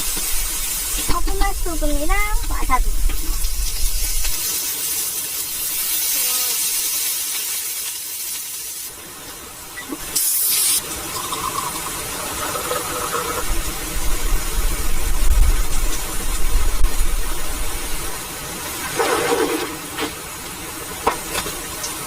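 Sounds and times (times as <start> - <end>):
rain falling: 0.0 - 10.2, 10.8 - 22.0.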